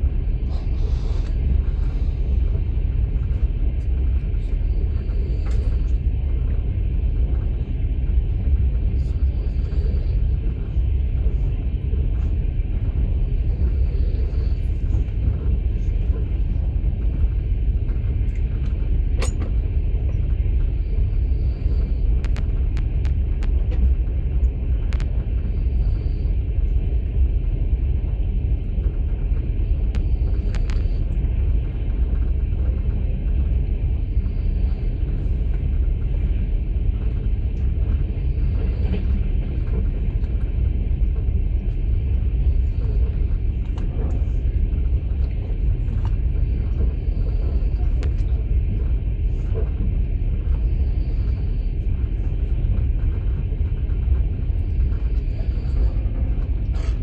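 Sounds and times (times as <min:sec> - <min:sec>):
train car rumbling on track: 0:00.0 - 0:57.0.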